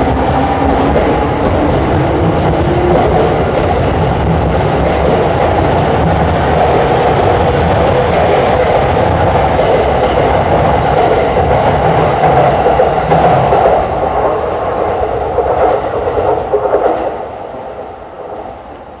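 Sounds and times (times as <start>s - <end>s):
train wheels clattering over rails: 0.0s - 17.2s.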